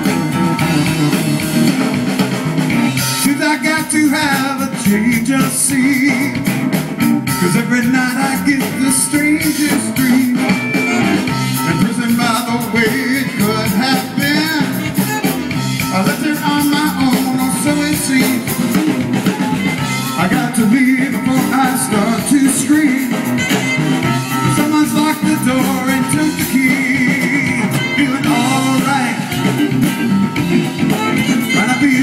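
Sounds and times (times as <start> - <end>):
electric guitar: 0.0 - 32.0
live band playing amplified music: 0.0 - 32.0.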